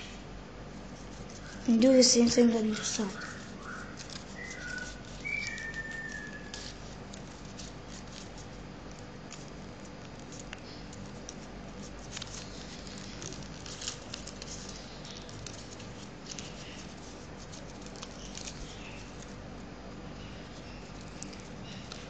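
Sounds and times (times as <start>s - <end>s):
paper being folded and creased: 0.7s - 19.5s, 20.2s - 22.0s.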